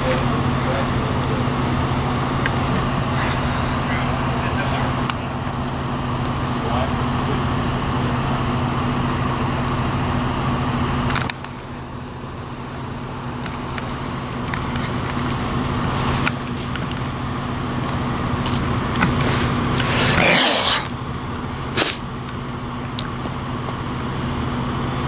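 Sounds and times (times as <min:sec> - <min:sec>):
street traffic noise: 0:00.0 - 0:25.0
vehicle engine idling: 0:00.0 - 0:25.0.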